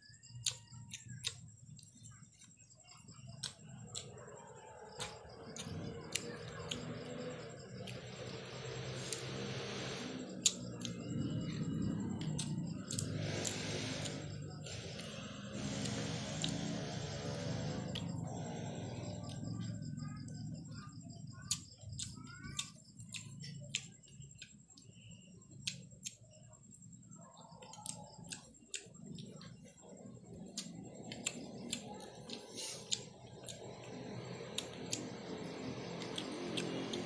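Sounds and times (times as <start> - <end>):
chewing clicks and smacks: 0.2 - 37.0.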